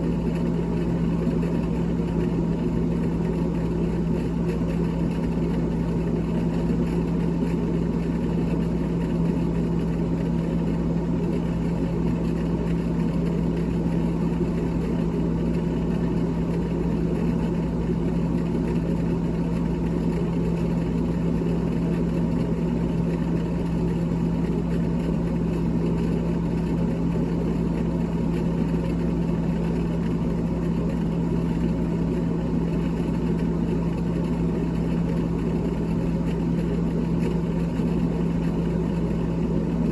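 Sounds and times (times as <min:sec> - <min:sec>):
freezer fan motor humming: 0:00.0 - 0:39.9.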